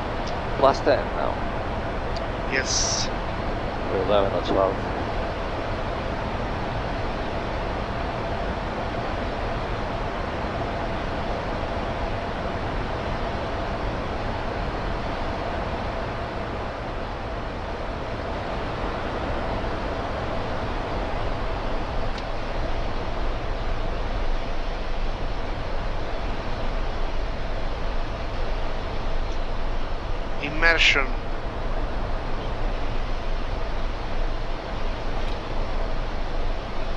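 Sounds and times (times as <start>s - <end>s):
air-conditioning hiss: 0.0s - 36.9s
faint steady tone: 0.0s - 36.9s
rushing airflow: 0.0s - 36.9s.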